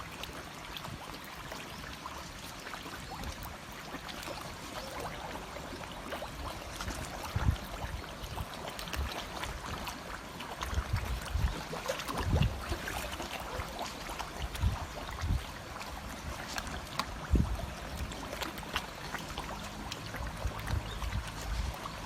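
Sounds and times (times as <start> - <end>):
water running and trickling: 0.0 - 22.0.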